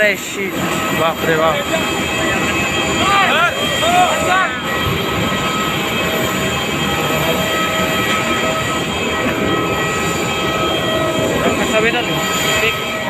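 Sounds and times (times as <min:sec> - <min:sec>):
high-pitched turbine whine: 0:00.0 - 0:13.0
jet turbines roaring: 0:00.0 - 0:13.0.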